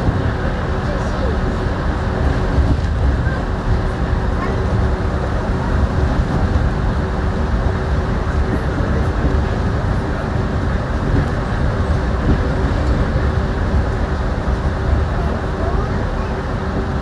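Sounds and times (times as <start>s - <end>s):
train tyres rumbling on guideway: 0.0s - 17.0s.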